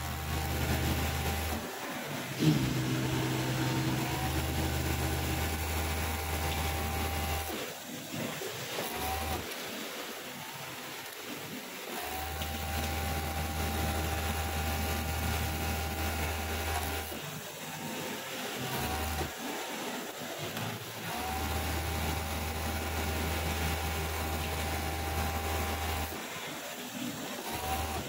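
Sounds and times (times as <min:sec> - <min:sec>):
overlock sewing machine stitching: 0:00.0 - 0:09.6, 0:10.8 - 0:28.0.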